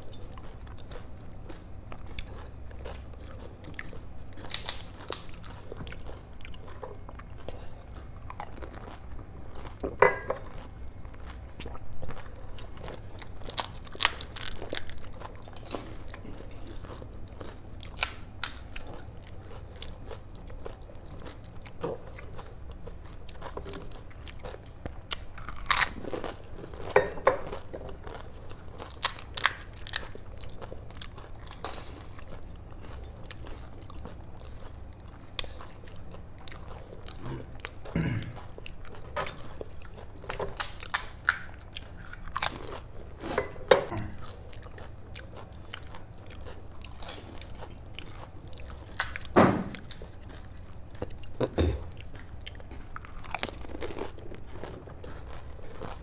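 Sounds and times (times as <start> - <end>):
crunching fried shells: 0.0 - 56.0
faint low hum: 0.0 - 56.0
wet chewing: 0.0 - 56.0.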